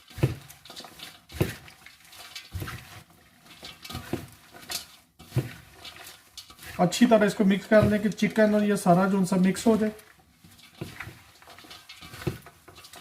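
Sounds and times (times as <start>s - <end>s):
hands mixing food in a bowl: 0.0s - 13.0s.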